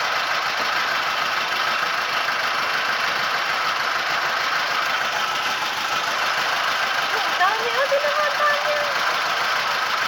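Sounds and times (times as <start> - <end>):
engine droning steadily: 0.0 - 10.0.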